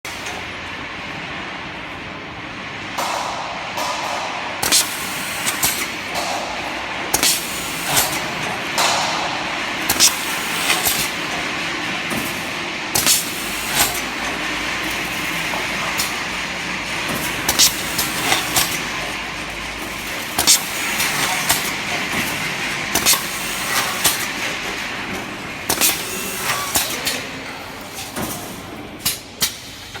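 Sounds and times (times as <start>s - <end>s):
machine running with clacks: 0.1s - 30.0s.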